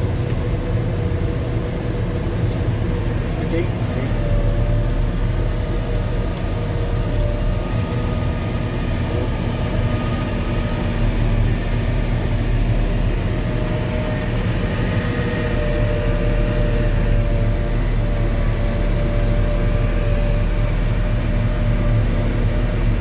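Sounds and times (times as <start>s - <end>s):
diesel engine drone: 0.0s - 23.0s.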